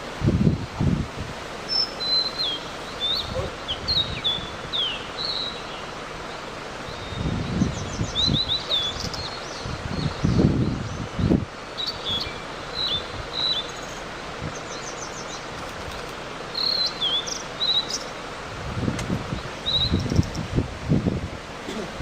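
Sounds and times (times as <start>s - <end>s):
bird chirping: 1.7s - 18.2s, 19.3s - 20.5s.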